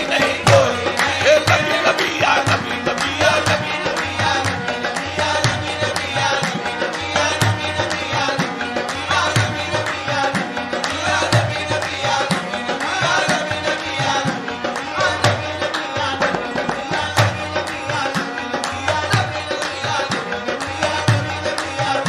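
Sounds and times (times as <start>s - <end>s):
harmonium: 0.0s - 22.0s
tabla drumming: 0.0s - 22.0s.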